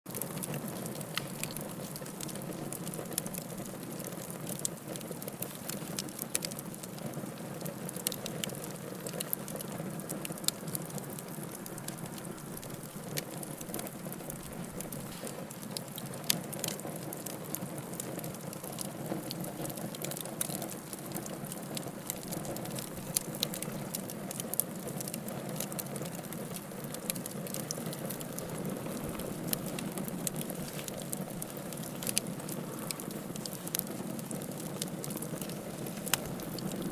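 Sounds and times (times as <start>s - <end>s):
fire crackles and pops: 0.1s - 36.9s
wood fire hissing: 0.1s - 36.9s.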